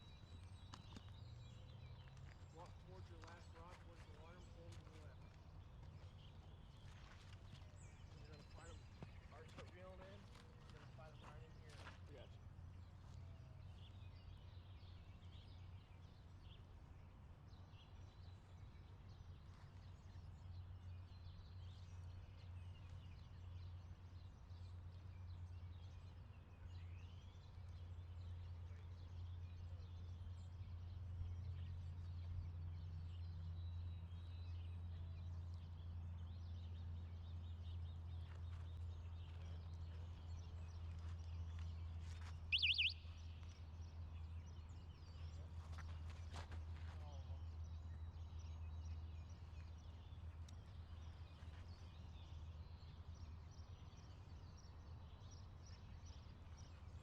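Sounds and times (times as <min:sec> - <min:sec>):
distant bird chirps: 0:00.0 - 0:57.0.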